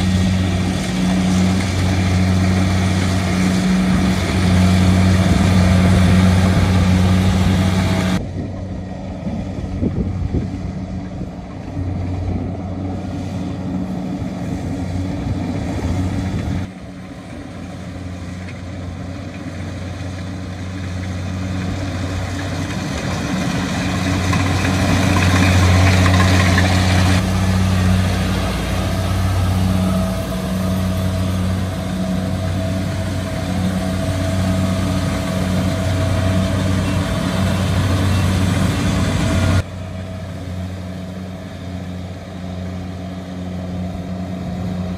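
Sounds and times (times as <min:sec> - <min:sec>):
combine harvester diesel engine: 0:00.0 - 0:44.9.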